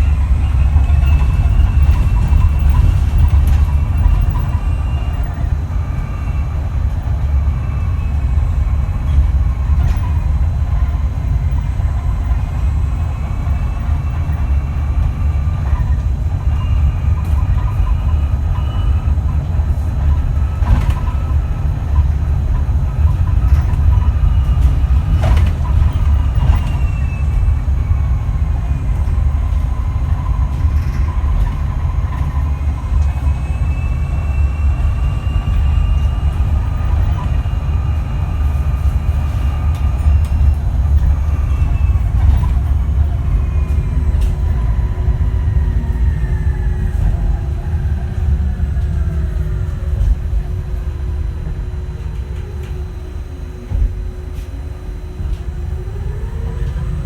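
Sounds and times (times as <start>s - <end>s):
low road rumble: 0.0s - 57.0s.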